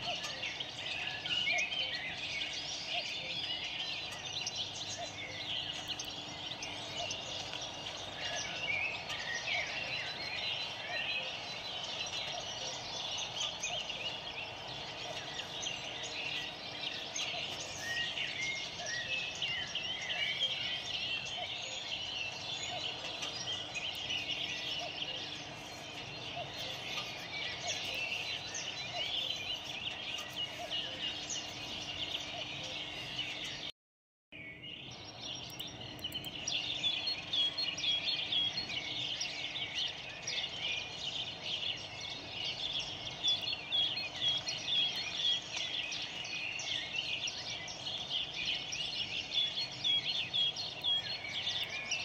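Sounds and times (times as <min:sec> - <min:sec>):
small birds chirping: 0:00.0 - 0:33.7, 0:34.4 - 0:52.0.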